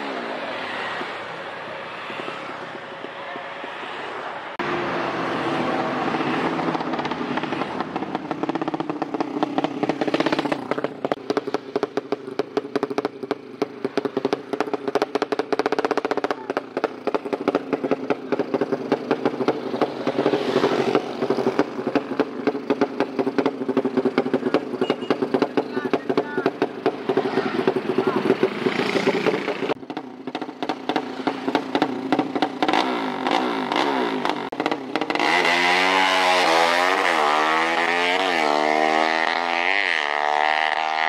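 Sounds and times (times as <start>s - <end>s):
motorcycle engine revving: 4.6s - 41.0s.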